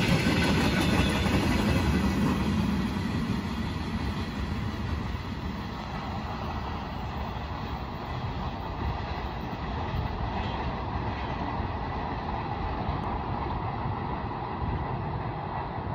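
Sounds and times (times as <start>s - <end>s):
train wagons rumbling over rails: 0.0s - 15.9s.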